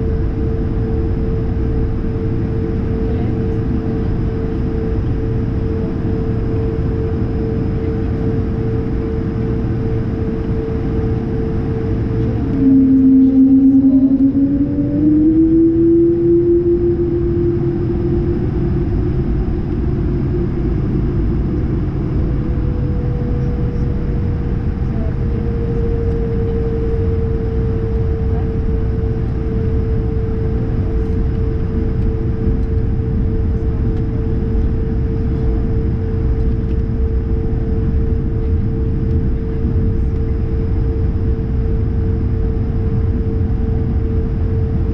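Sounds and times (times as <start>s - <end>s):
aircraft cabin rumble: 0.0s - 44.9s
jet engine whine: 0.0s - 44.9s.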